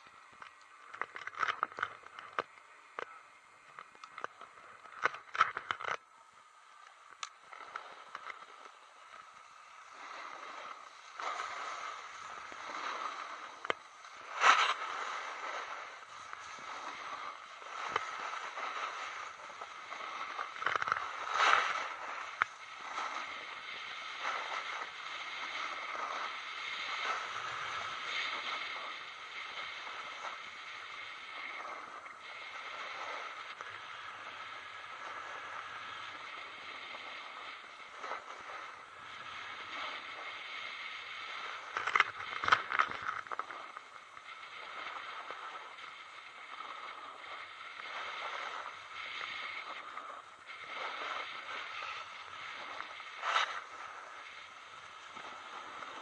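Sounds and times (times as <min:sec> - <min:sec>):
skis scraping over snow: 0:00.0 - 0:56.0.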